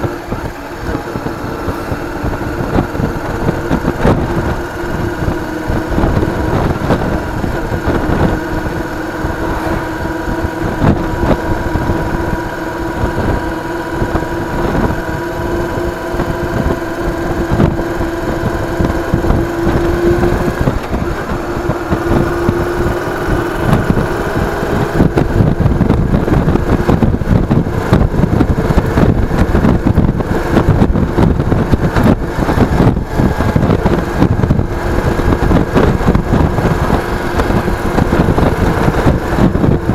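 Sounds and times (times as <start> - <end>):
road and wind rumble: 0.0 - 39.9
vehicle engine hum: 0.0 - 39.9.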